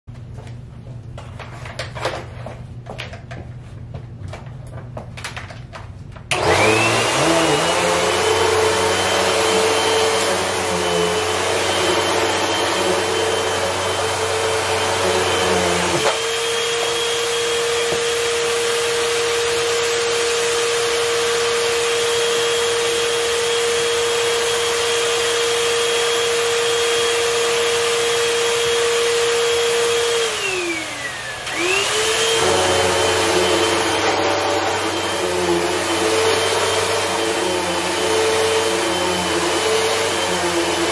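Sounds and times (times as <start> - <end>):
vacuum cleaner motor whine: 6.3 - 40.9.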